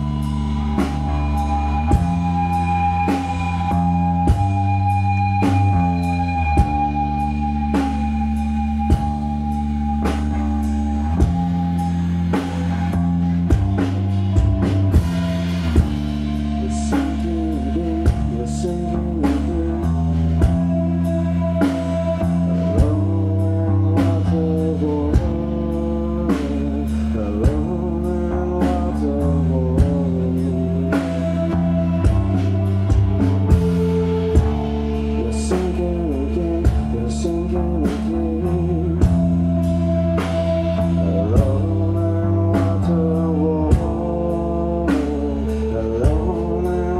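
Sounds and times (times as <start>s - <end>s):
man singing: 0.0s - 46.9s
rock band playing: 0.0s - 46.9s.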